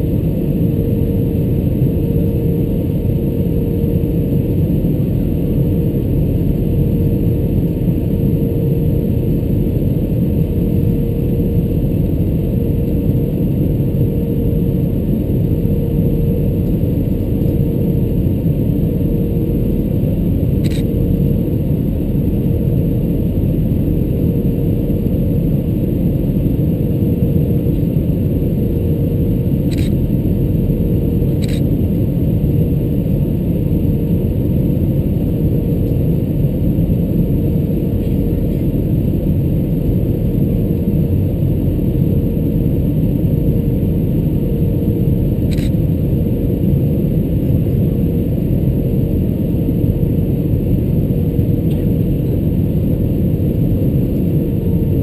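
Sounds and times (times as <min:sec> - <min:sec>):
airplane cabin roar: 0:00.0 - 0:55.0
faint steady hum: 0:00.0 - 0:55.0.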